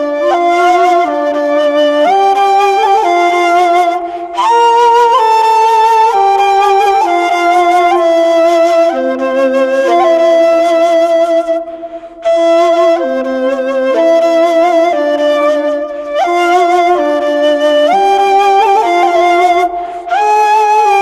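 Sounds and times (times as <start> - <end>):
slow flute melody: 0.0 - 21.0.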